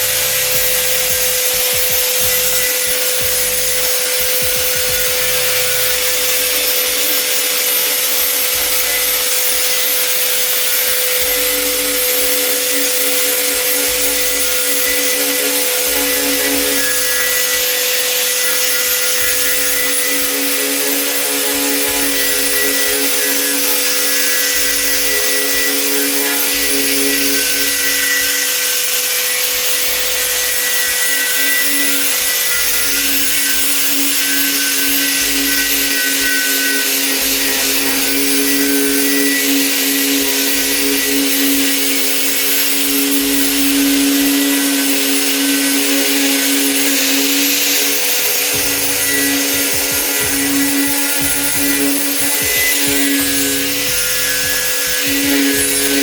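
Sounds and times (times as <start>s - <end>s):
abrasive scraping metal: 0.0s - 56.0s
power tool motor whine: 0.0s - 56.0s.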